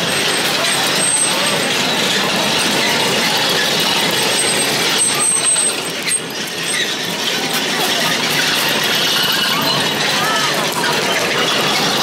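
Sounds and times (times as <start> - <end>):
crowd din: 0.0 - 12.0.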